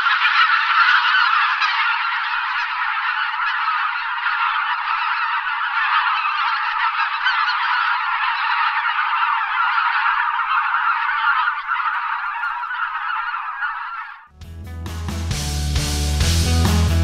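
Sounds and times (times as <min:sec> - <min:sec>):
geese honking: 0:00.0 - 0:14.8.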